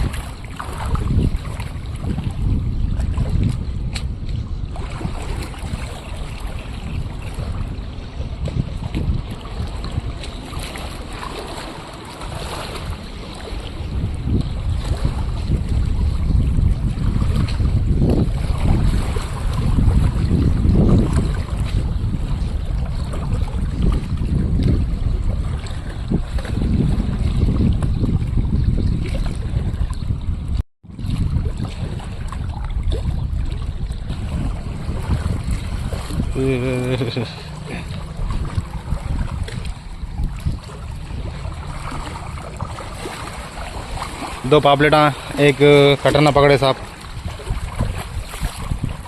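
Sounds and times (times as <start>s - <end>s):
choppy river water: 0.0s - 49.0s
wind buffeting microphone: 0.0s - 49.0s.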